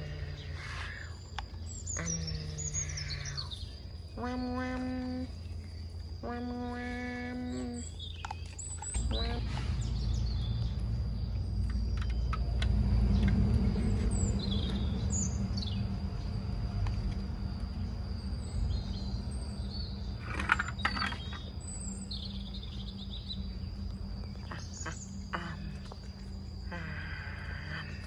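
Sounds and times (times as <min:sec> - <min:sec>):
insect drone: 0:00.0 - 0:28.0
low background rumble: 0:00.0 - 0:28.0
small birds chirping: 0:00.0 - 0:28.0.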